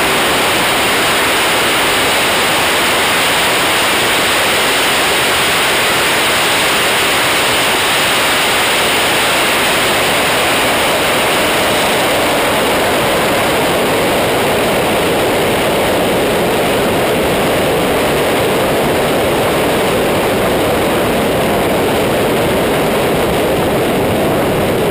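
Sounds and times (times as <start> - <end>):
wind rushing over camera: 0.0 - 24.9.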